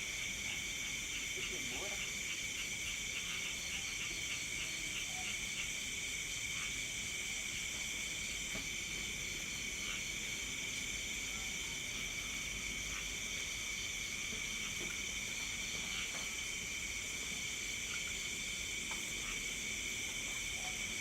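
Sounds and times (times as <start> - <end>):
cricket chirping: 0.0 - 21.0
insects trilling: 0.0 - 21.0.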